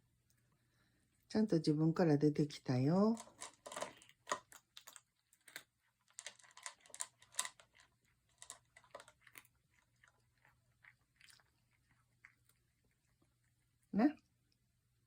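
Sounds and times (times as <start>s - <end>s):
cat crunching food: 2.5s - 14.7s.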